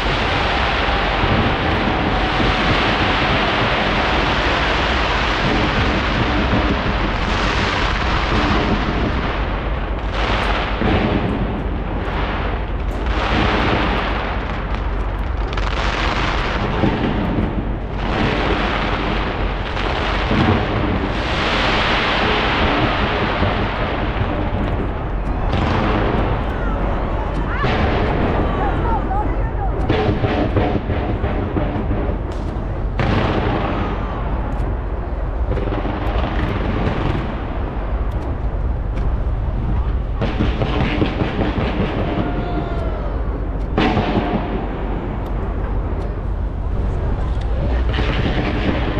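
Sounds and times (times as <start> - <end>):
fireworks booming and crackling: 0.0 - 48.9.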